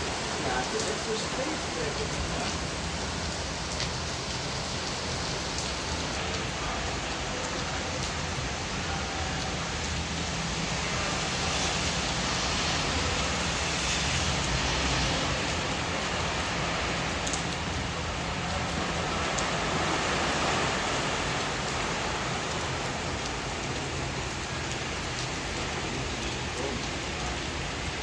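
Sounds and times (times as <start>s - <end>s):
heavy rain and wind: 0.0s - 28.0s.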